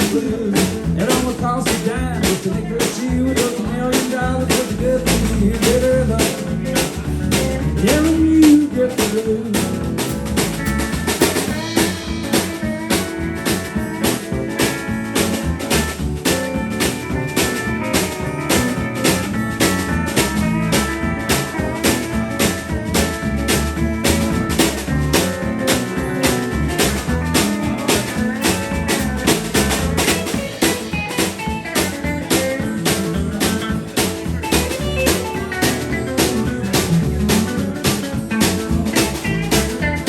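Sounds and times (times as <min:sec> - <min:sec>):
drum backbeat: 0:00.0 - 0:40.0
guitar: 0:00.0 - 0:40.0.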